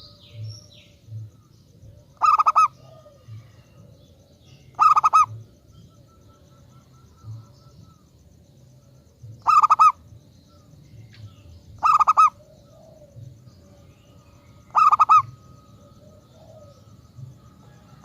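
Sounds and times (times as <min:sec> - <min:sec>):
dove cooing: 0:00.0 - 0:08.2, 0:09.3 - 0:10.1, 0:11.2 - 0:18.0.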